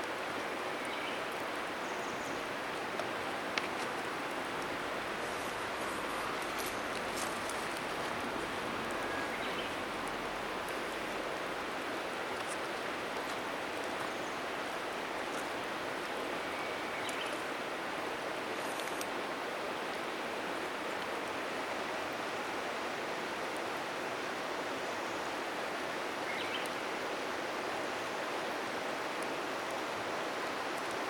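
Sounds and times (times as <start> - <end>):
bonfire crackles: 0.0 - 31.0
river flowing: 0.0 - 31.0.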